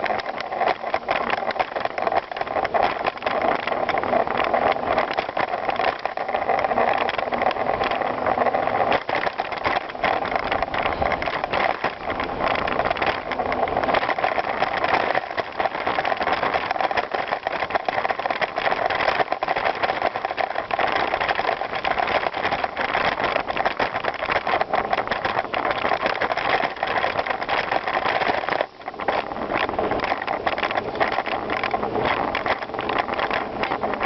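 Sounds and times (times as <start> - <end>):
bicycle rattling clicks: 0.0 - 34.0
bicycle tyres on gravel: 0.0 - 34.0.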